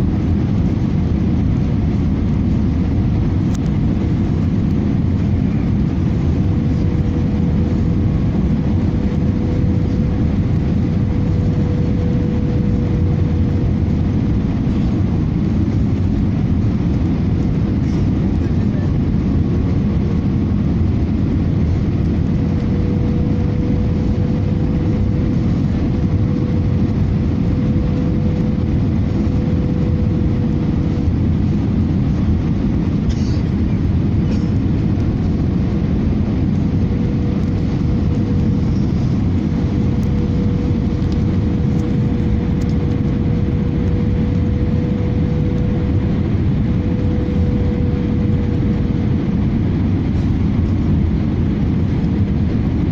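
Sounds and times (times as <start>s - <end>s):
low rumble of airliner cabin: 0.0s - 52.9s
mid-pitched hum: 0.0s - 52.9s.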